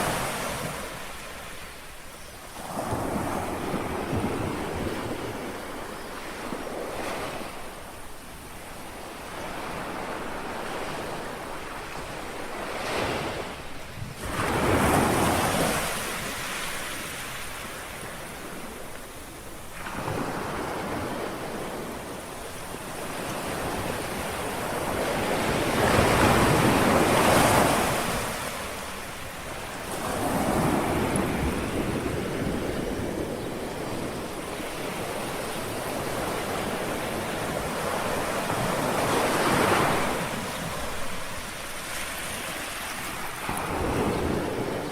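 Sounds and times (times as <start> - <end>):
sea waves lapping on shore: 0.0 - 44.9.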